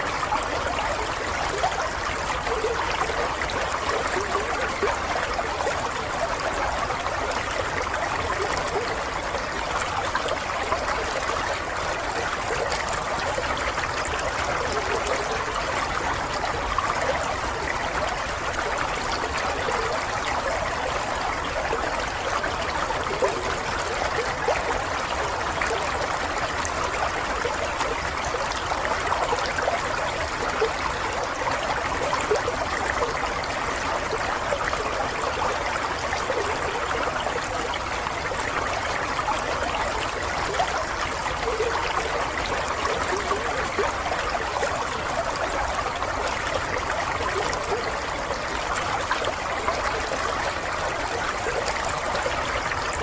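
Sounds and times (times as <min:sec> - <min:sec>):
brook babbling and trickling: 0:00.0 - 0:53.0.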